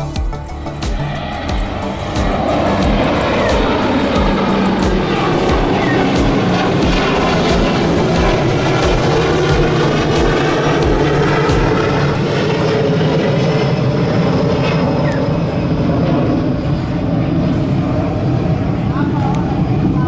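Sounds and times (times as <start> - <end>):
jet engines at take-off power: 0.0 - 20.0.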